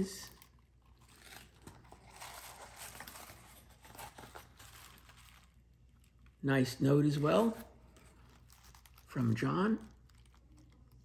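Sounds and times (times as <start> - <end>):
packing material crinkling: 0.0 - 11.0.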